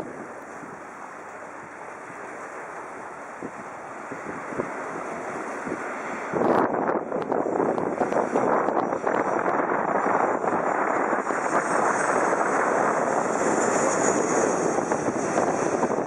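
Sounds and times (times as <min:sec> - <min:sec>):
high engine whine: 0:00.0 - 0:16.0
jet airliner passing overhead: 0:00.0 - 0:16.0.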